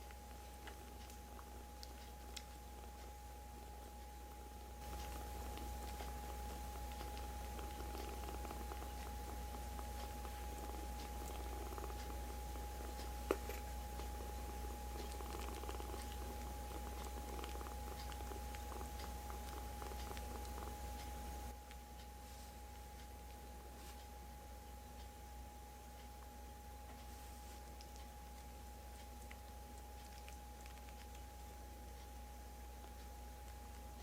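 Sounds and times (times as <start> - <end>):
kittens purring: 0.0 - 34.0.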